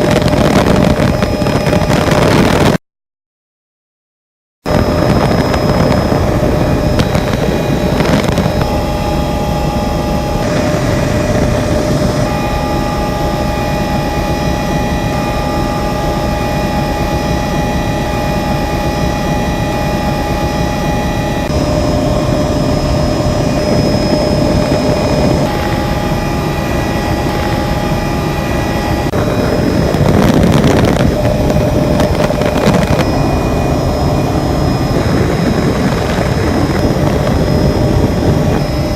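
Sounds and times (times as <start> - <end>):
helicopter rotor drone: 0.0 - 2.8, 4.7 - 38.9
high whine: 0.0 - 2.8, 4.7 - 38.9.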